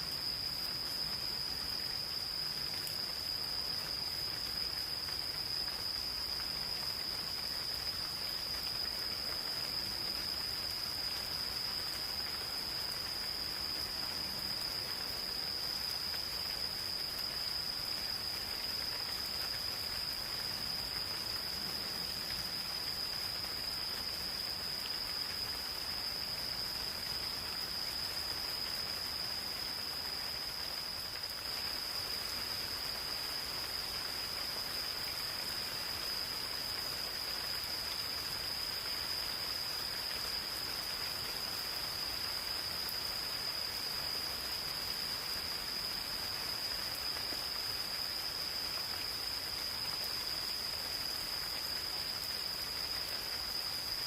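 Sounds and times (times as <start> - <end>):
high-pitched insect chorus: 0.0 - 54.0
rain pattering on leaves: 0.1 - 54.0.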